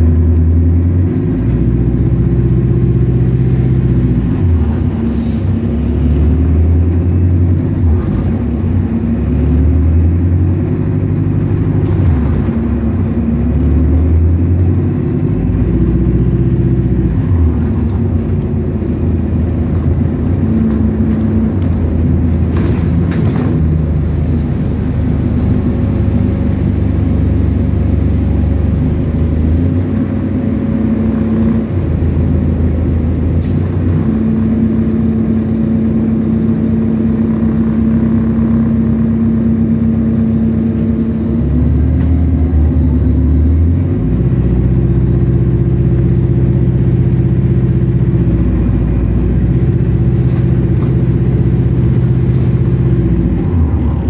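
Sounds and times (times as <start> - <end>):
bus engine shifting gears: 0.0 - 54.0.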